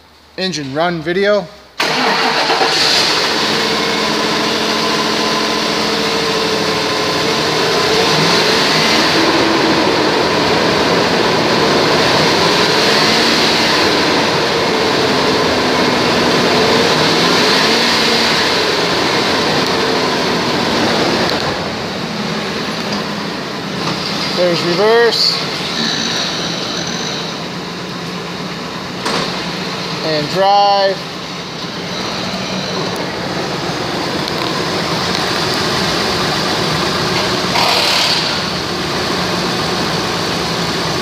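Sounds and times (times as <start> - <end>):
car engine idling: 1.8 - 41.0.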